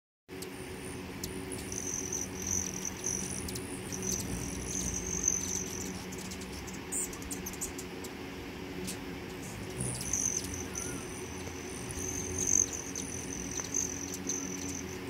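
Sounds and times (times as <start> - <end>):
hummingbirds buzzing: 0.3 - 15.0
low steady hum: 0.3 - 15.0.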